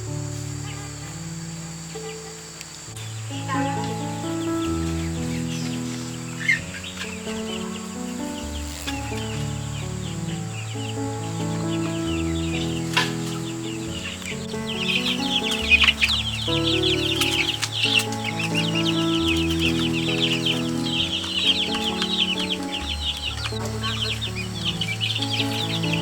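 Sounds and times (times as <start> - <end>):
slow chord music: 0.0 - 26.0
chickens chirping and clucking: 0.3 - 26.0.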